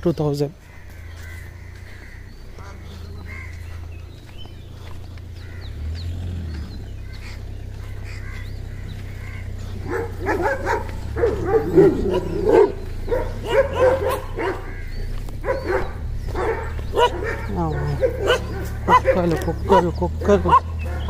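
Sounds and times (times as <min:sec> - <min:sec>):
dogs barking and yelping: 0:03.3 - 0:21.0.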